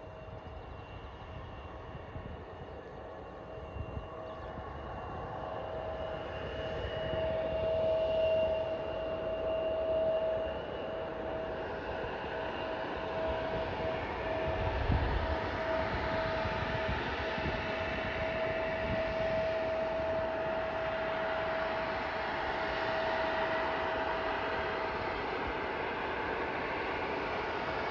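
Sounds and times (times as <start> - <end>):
jet engines whining: 0.0 - 27.9.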